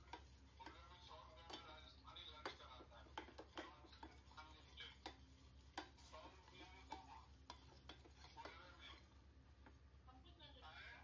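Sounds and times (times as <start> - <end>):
metal spatula scraping pan: 0.0 - 9.2.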